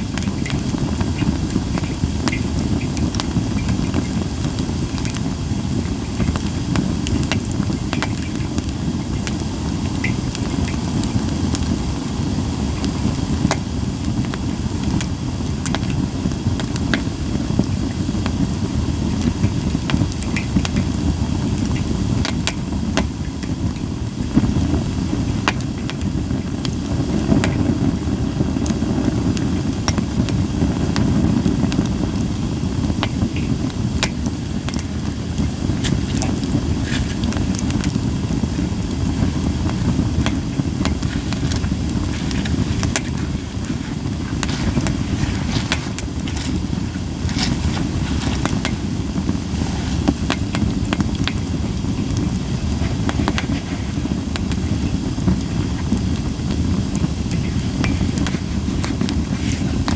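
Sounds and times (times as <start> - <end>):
firewood crackling and popping: 0.0 - 59.9.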